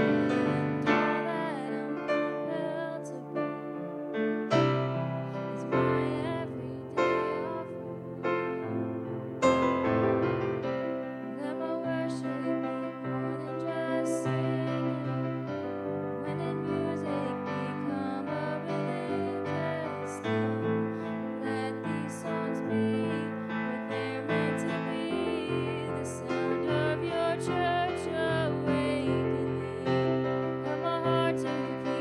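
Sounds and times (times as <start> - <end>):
woman singing into microphone: 0.0 - 3.9, 5.6 - 8.3, 11.2 - 15.4, 16.2 - 20.6, 21.4 - 32.0
keyboard chords: 0.0 - 32.0.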